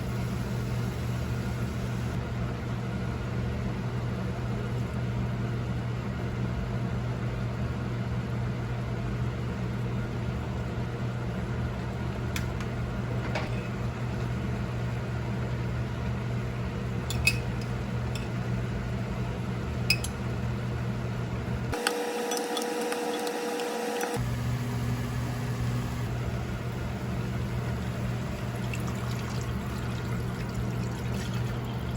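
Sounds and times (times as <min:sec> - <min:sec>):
low mechanical hum: 0:00.0 - 0:31.9.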